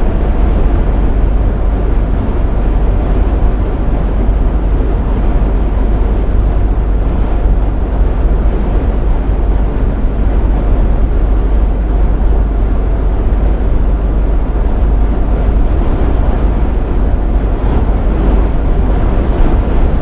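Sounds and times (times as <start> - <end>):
truck running on the road: 0.0 - 20.0.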